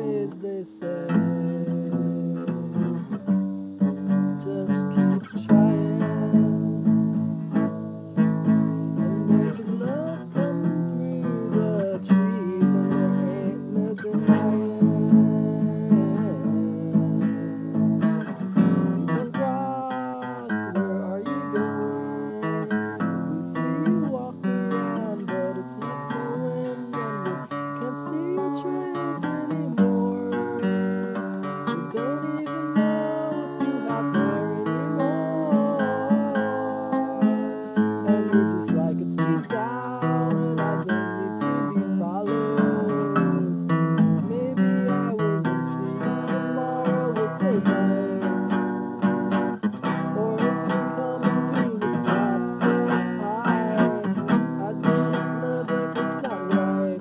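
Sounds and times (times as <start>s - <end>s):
acoustic guitar: 0.0s - 57.0s.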